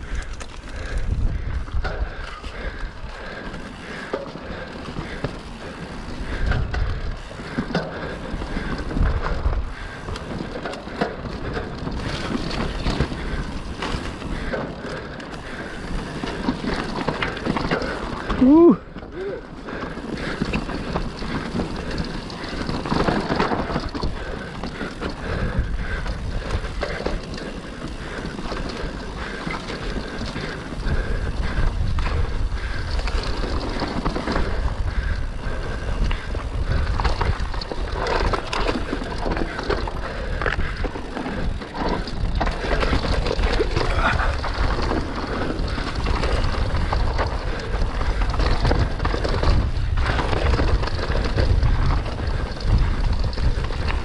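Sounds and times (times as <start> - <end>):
bike rattling over bumps: 0.0 - 54.0
bike tyres on dirt: 0.0 - 54.0.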